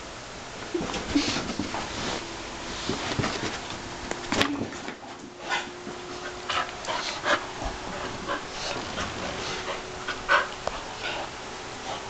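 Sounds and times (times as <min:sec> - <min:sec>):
dogs playing roughly: 0:00.6 - 0:12.0.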